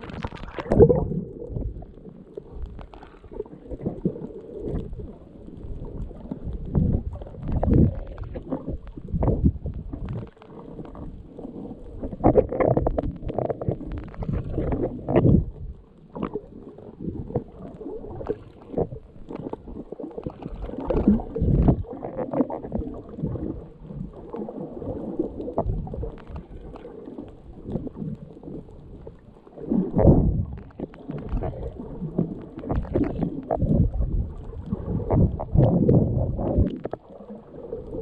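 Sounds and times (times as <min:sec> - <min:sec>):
underwater water noise: 0:00.0 - 0:38.0.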